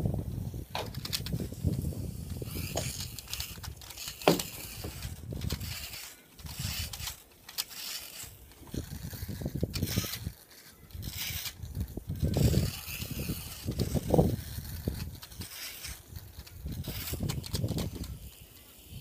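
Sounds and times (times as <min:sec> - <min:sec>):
wind buffeting microphone: 0:00.0 - 0:07.2, 0:08.6 - 0:19.0
clicks and crackles: 0:02.6 - 0:18.6.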